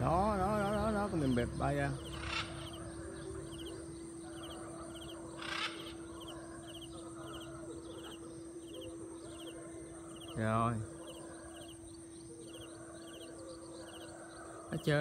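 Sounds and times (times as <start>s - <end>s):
faint steady hum: 0.0s - 15.0s
loud noisy animal calls: 0.0s - 15.0s.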